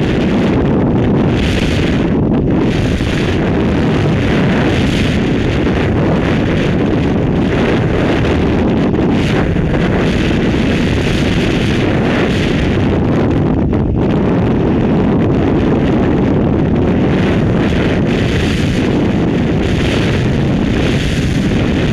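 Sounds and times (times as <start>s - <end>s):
wind rushing over microphone: 0.0s - 21.9s.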